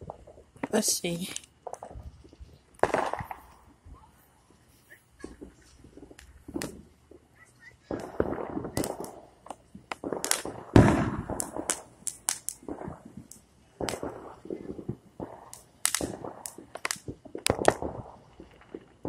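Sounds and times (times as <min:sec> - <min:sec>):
fireworks cracking and banging: 0:00.0 - 0:19.0
fireworks rumble: 0:00.0 - 0:19.0.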